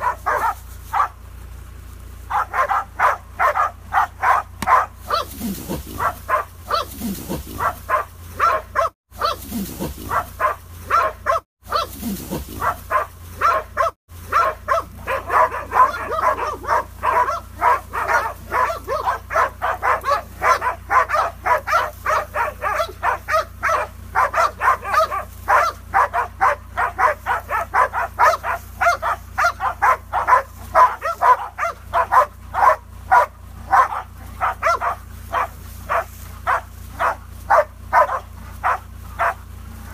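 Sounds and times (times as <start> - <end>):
dogs barking rapidly: 0.0 - 1.3, 2.2 - 39.9.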